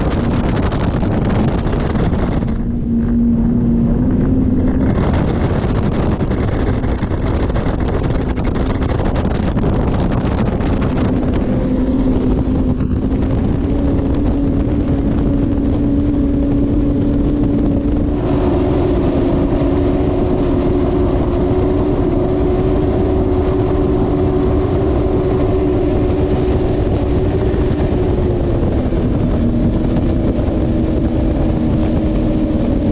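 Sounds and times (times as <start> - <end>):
outboard engines droning: 0.0 - 32.9
rush of wind and spray: 0.0 - 32.9.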